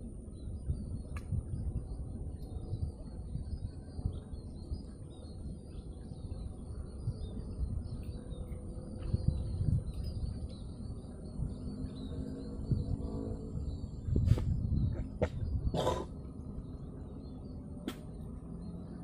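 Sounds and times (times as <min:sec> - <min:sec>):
birds chirping: 0:00.0 - 0:19.0
wind rumble on microphone: 0:00.0 - 0:19.0.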